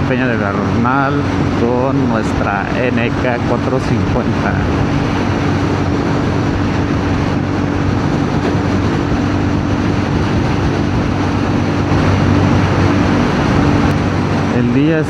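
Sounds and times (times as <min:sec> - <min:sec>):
motorcycle engine cruising: 0:00.0 - 0:15.0
wind rush over microphone: 0:00.0 - 0:15.0.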